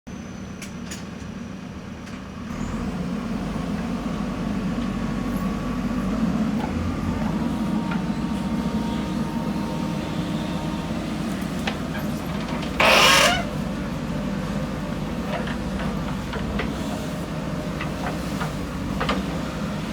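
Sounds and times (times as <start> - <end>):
diesel engine running: 2.4 - 19.9.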